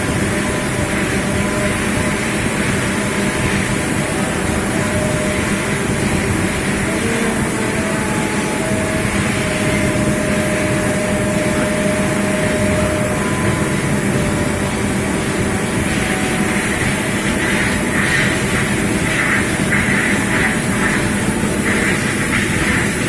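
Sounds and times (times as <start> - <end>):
faint steady tones: 0.0 - 23.0
loud mechanical noise: 0.0 - 23.0.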